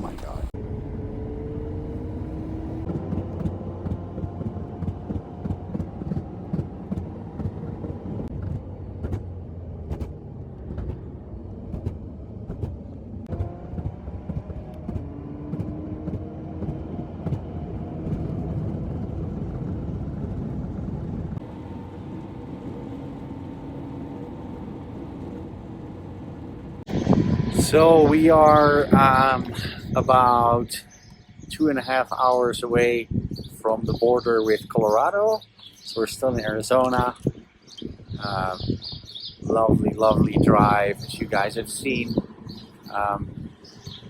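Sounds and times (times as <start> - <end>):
engine and road rumble: 0.0 - 44.0.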